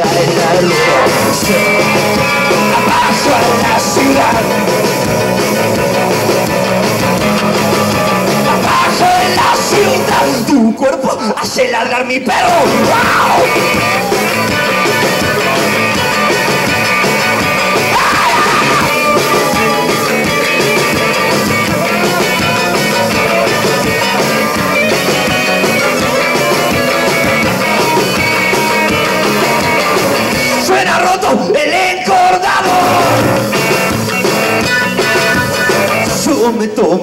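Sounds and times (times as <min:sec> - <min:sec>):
live rock band playing: 0:00.0 - 0:11.0, 0:12.3 - 0:37.0.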